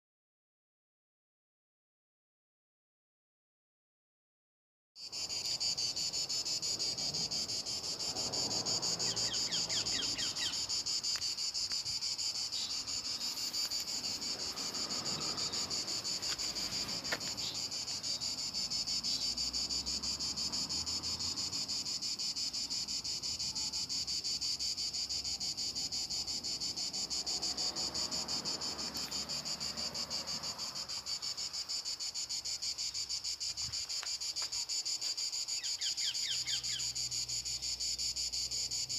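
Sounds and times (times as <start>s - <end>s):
insects chirring: 5.0s - 38.9s.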